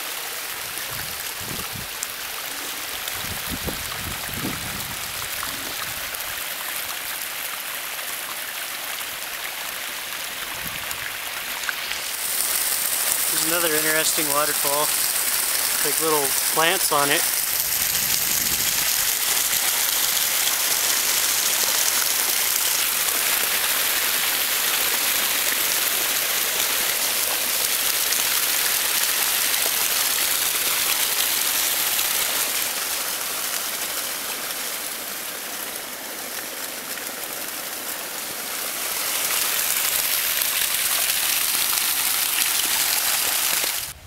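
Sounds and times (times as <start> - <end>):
waterfall splashing: 0.0 - 44.0.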